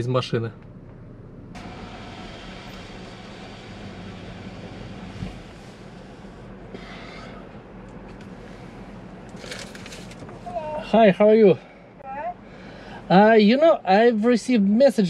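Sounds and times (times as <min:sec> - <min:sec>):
car engine idling: 0:00.0 - 0:14.4.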